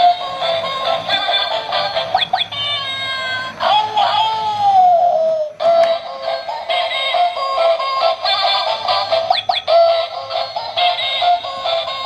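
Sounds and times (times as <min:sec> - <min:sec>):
toy playing tinny electronic tune: 0:00.0 - 0:12.0.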